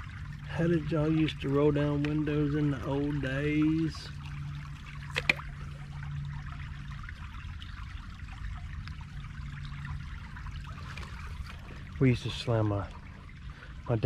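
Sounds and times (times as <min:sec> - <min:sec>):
creek water trickling: 0:00.0 - 0:14.0
low steady hum: 0:00.0 - 0:14.0.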